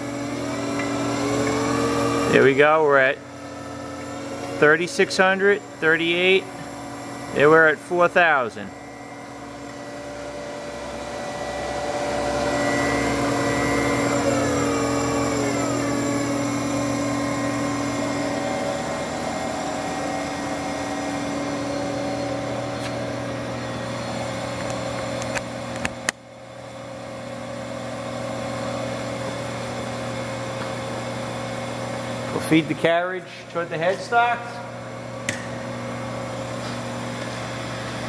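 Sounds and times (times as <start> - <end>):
lathe humming and whining: 0.0 - 38.0.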